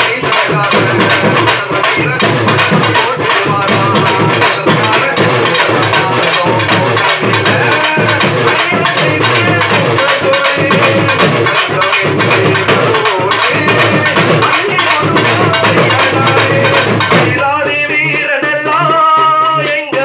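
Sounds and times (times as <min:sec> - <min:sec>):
folk drum ensemble fast beat: 0:00.0 - 0:20.0.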